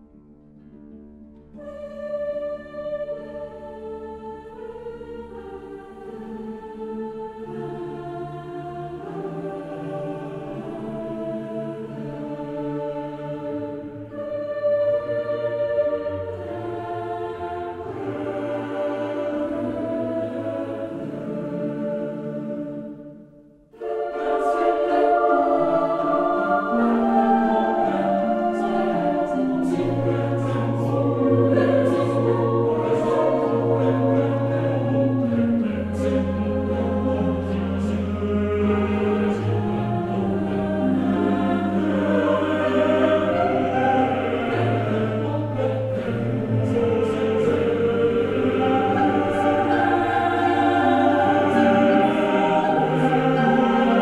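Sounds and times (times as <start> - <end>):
choir singing slow chords: 0.0 - 54.0.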